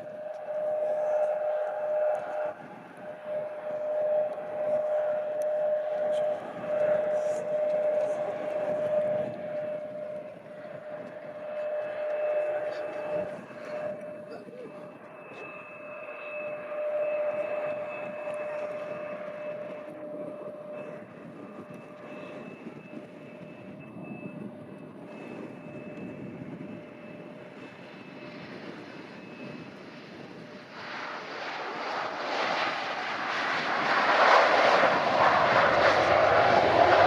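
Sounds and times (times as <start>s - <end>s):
aircraft approaching: 0.0s - 37.0s
jet engine whine: 0.0s - 37.0s.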